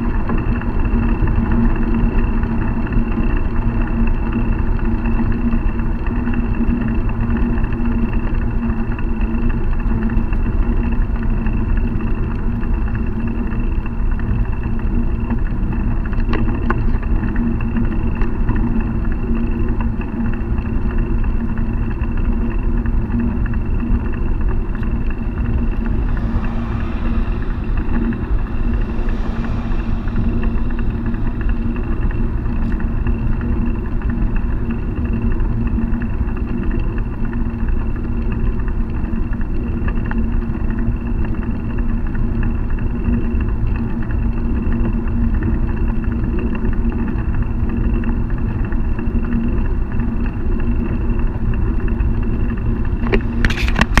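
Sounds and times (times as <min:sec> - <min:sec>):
constant hum: 0:00.0 - 0:54.0
wind on microphone: 0:00.0 - 0:54.0.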